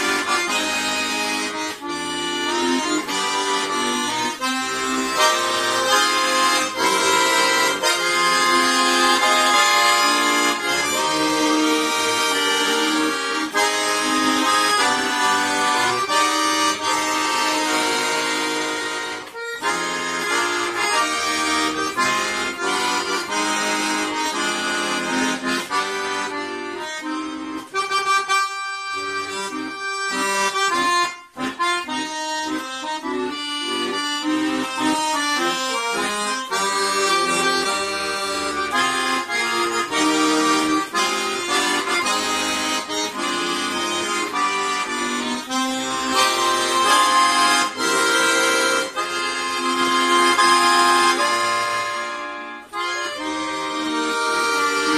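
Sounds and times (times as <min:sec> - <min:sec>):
accordion playing a tune: 0:00.0 - 0:54.9.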